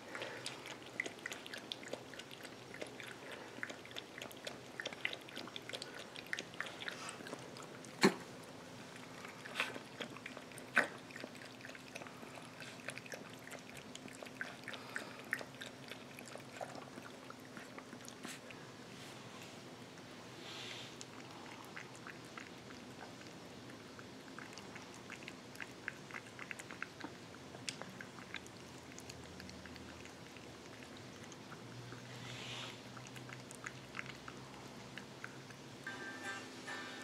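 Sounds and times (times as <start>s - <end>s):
puppy lapping water from bowl: 0.0s - 18.7s, 21.0s - 32.2s, 32.8s - 35.7s.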